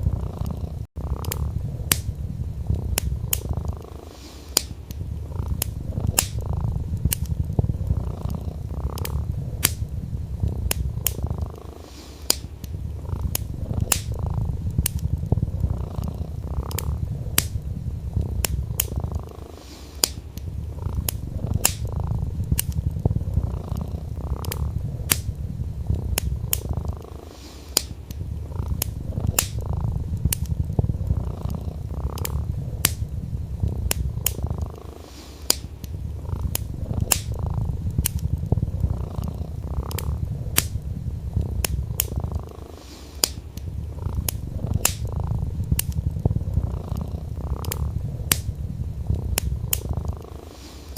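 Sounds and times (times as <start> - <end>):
cat purring: 0.0 - 50.9
wood fire crackling: 0.0 - 50.9.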